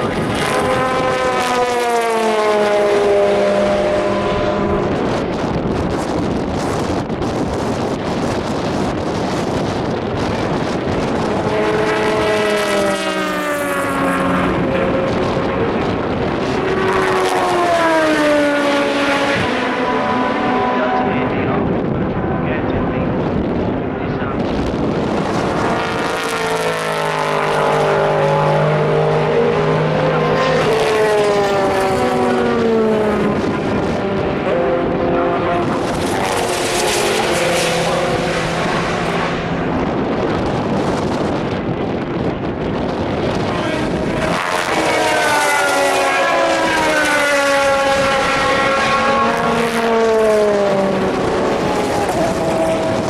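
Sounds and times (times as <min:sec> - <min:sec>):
racing car engine: 0:00.0 - 0:41.6, 0:43.1 - 0:53.0
wind noise on microphone: 0:00.0 - 0:53.0.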